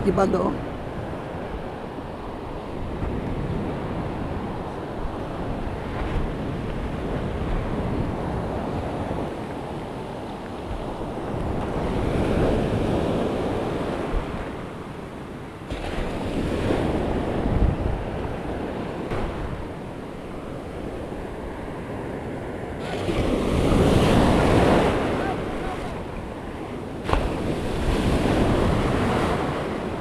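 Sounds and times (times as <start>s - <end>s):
surf washing up beach: 0.0s - 30.0s
wind buffeting microphone: 0.0s - 30.0s.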